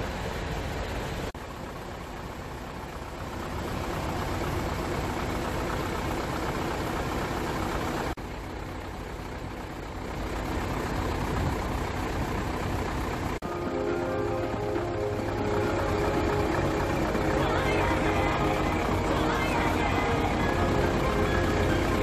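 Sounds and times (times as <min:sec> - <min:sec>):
diesel truck engine idling: 0:00.1 - 0:22.0.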